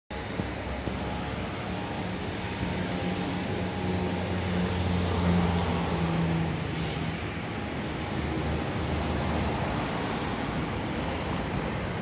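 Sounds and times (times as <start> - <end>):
engine drone: 0.1 - 12.0.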